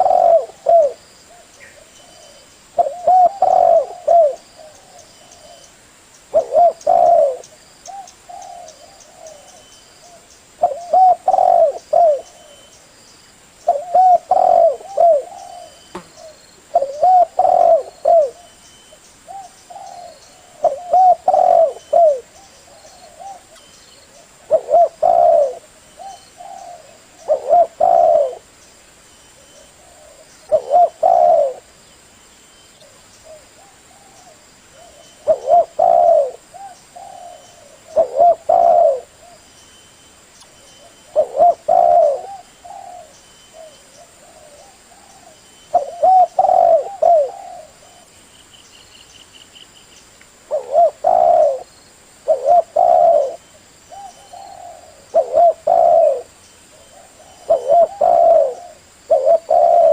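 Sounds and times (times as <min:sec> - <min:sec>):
dove low rolling coos: 0:00.0 - 0:05.6, 0:06.3 - 0:12.7, 0:13.6 - 0:18.5, 0:19.3 - 0:28.5, 0:29.4 - 0:31.8, 0:32.8 - 0:39.5, 0:40.8 - 0:48.2, 0:50.5 - 0:59.9.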